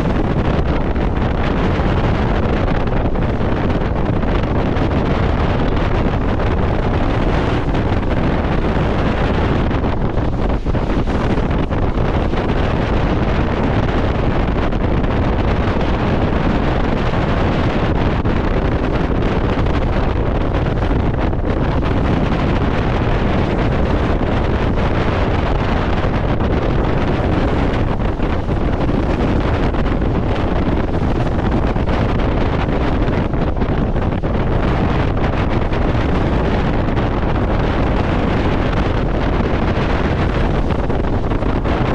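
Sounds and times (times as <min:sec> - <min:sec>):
water rushing along a hull: 0:00.0 - 0:41.9
wind buffeting the microphone: 0:00.0 - 0:41.9.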